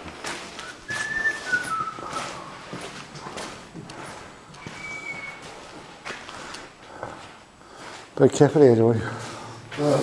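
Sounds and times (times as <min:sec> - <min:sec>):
footsteps scuffing on rough floor: 0:00.0 - 0:10.0.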